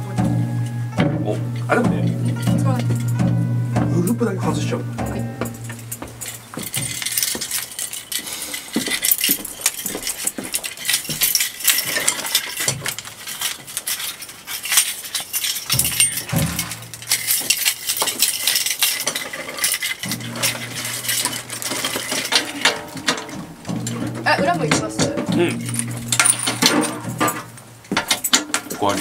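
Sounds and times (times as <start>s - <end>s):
low steady hum: 0.0s - 8.2s, 10.7s - 29.0s
metal drum hardware clinking: 0.0s - 29.0s.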